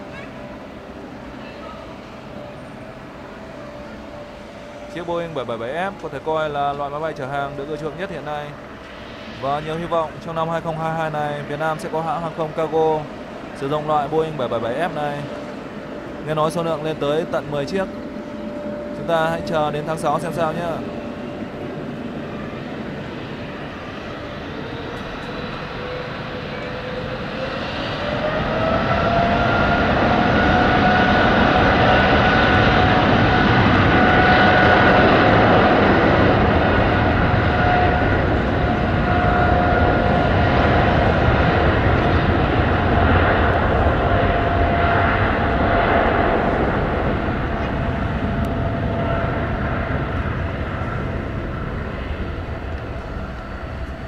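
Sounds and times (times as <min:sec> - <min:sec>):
jet engines spooling up: 0:00.0 - 0:54.0.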